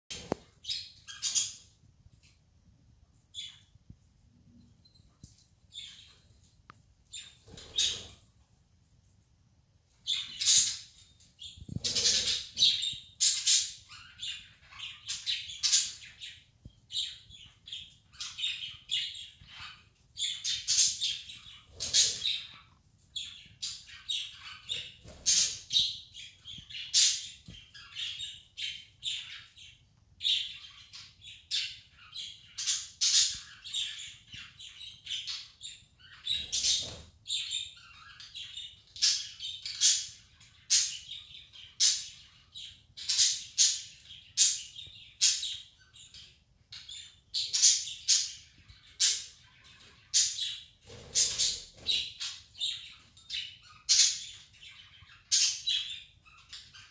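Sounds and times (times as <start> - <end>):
budgerigars chirping: 7.2 - 8.2, 10.1 - 10.9, 11.6 - 16.4, 17.0 - 29.5, 30.2 - 56.9.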